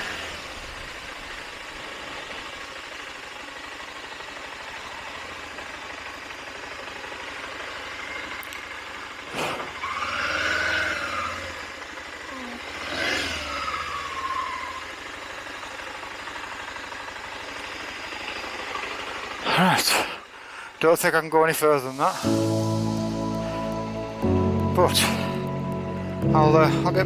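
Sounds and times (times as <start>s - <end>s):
motorcycle engine running: 0.0s - 20.8s, 22.2s - 27.0s.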